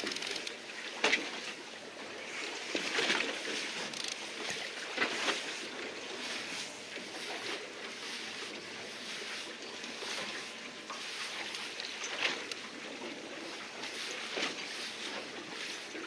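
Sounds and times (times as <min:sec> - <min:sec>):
water slapping against boat hull: 0:02.4 - 0:16.0.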